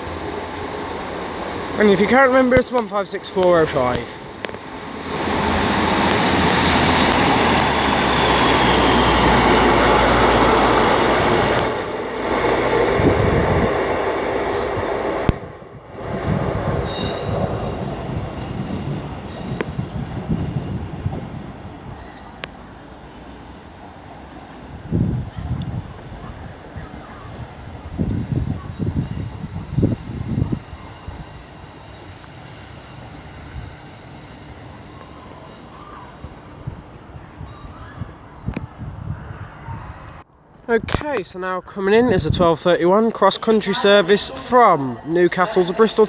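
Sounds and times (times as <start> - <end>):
train wheels on rails: 0.0 - 38.8
diesel train engine running: 0.0 - 39.1, 42.2 - 46.0
high whine falling in pitch: 0.0 - 40.3.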